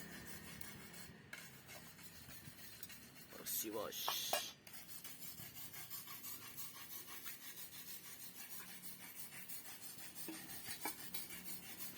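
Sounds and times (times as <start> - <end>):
rhythmic rubbing strokes: 0.0 - 11.9.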